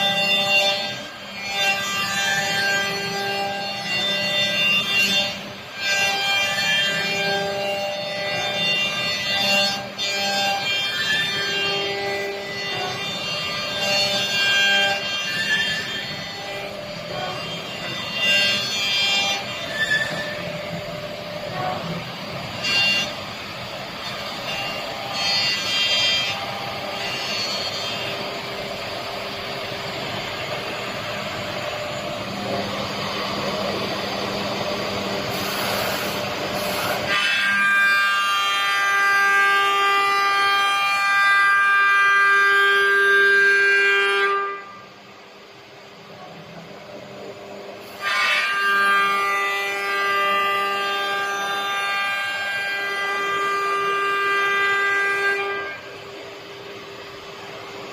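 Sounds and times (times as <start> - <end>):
cnc router cutting: 0.0 - 57.9.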